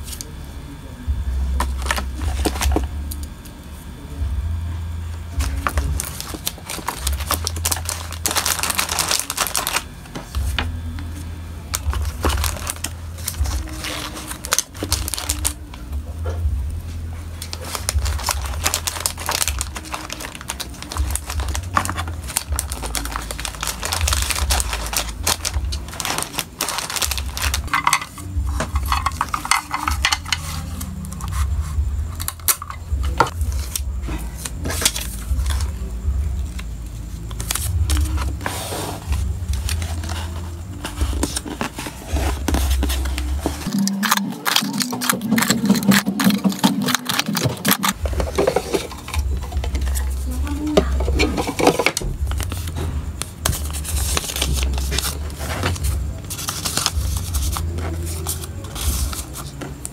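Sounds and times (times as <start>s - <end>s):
plastic packaging crinkling: 1.6s - 3.4s, 5.4s - 11.1s, 11.7s - 15.8s, 17.3s - 35.9s, 36.5s - 59.9s.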